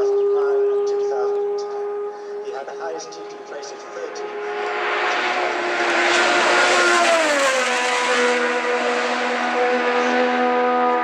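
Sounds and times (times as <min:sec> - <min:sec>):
motorcycle passing at speed: 0:00.0 - 0:11.0.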